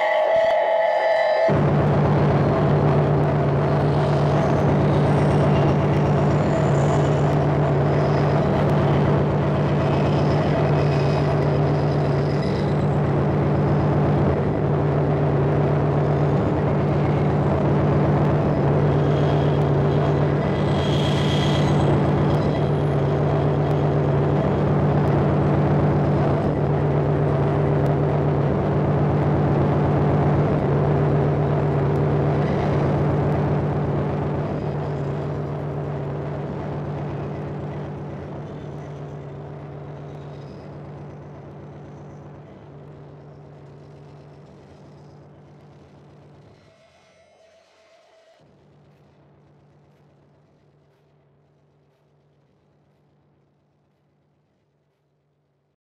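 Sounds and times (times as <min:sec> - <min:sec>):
harsh synthesizer drone: 0:00.0 - 0:47.1
grainy pulsing texture: 0:00.0 - 0:47.2.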